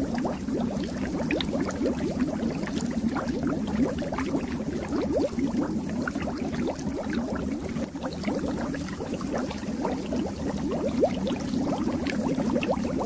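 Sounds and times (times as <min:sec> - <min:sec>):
fish tank water bubbling: 0:00.0 - 0:13.0.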